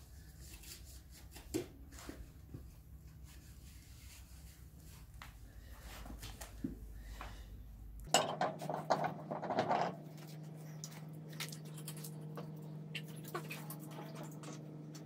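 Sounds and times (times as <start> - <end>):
steady low hum: 1.7 - 15.0.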